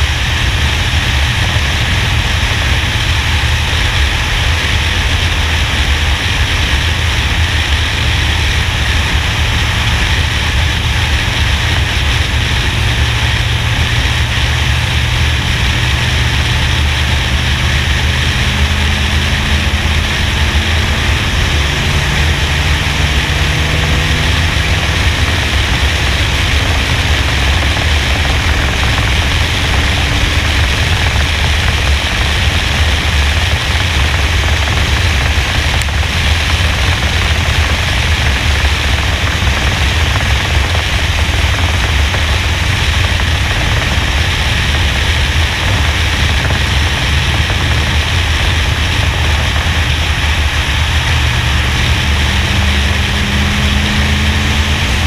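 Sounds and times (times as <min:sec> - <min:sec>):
race car engine: 0:00.0 - 0:55.0
wind rushing over microphone: 0:00.0 - 0:55.0.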